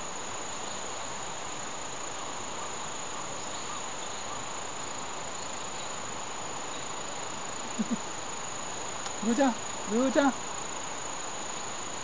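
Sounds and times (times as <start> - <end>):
constant hiss: 0.0 - 12.0
insects droning: 0.0 - 12.0.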